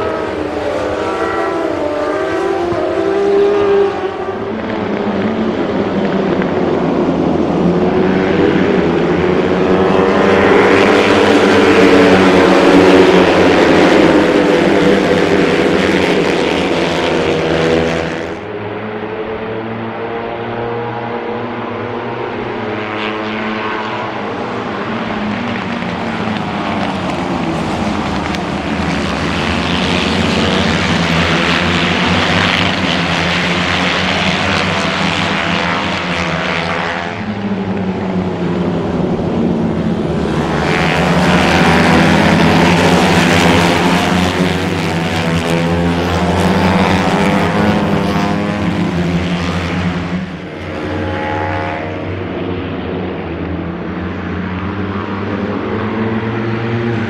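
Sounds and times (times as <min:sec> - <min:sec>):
racing motorcycles passing: 0:00.0 - 0:57.0.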